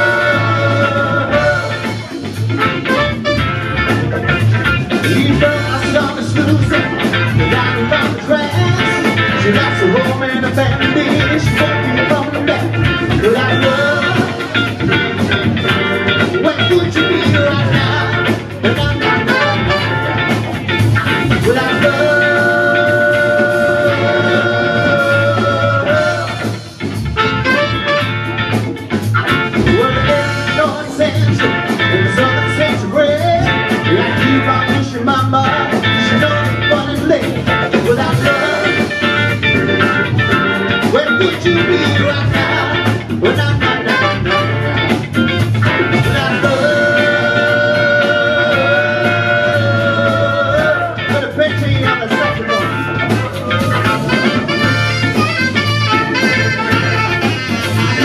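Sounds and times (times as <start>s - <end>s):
people singing: 0.0s - 2.4s, 5.0s - 20.0s, 21.0s - 26.8s, 29.6s - 45.0s, 45.7s - 55.1s
live rock band playing: 0.0s - 58.0s.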